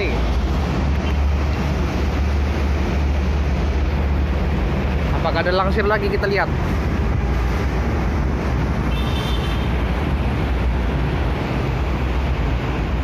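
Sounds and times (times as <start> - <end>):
motorbikes: 0.0 - 13.0
road traffic rumble: 0.0 - 13.0.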